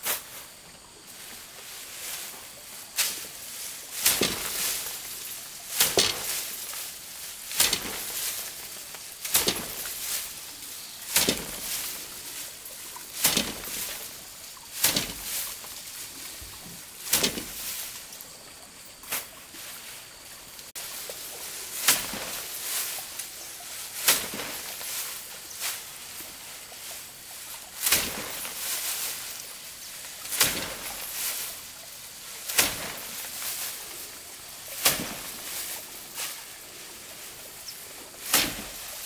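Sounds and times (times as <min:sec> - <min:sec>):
short rustle: 0:00.0 - 0:39.0.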